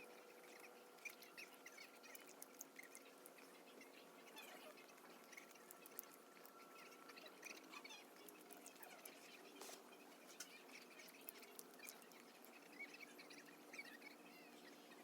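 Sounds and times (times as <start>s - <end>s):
small irregular clicks: 0.0s - 13.8s.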